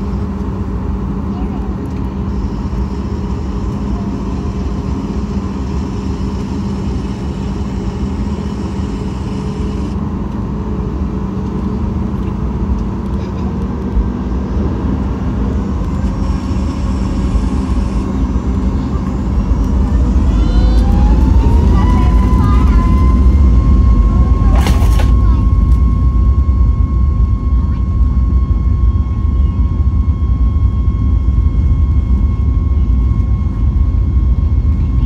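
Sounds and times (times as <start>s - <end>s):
jet engines rumbling and humming: 0.0s - 35.0s
rising engine whine: 0.0s - 35.0s.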